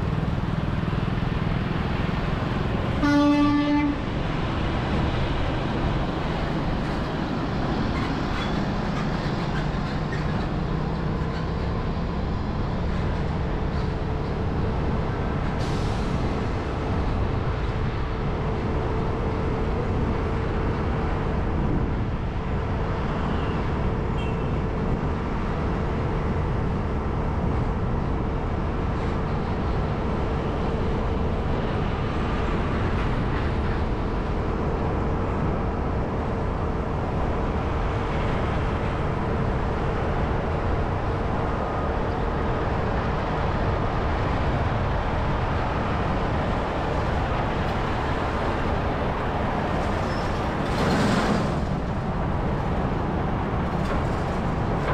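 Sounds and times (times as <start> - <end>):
vehicle and road noise: 0.0 - 54.9.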